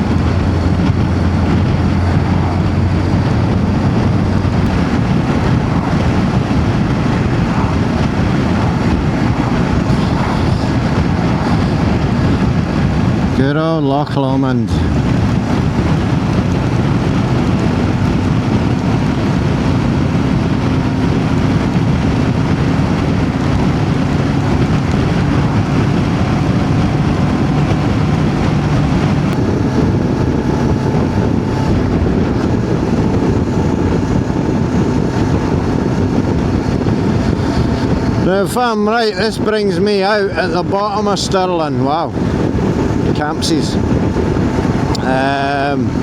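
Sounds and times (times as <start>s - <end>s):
motorcycle engine cruising: 0.0s - 13.6s, 14.2s - 46.0s
wind noise on microphone: 0.0s - 46.0s.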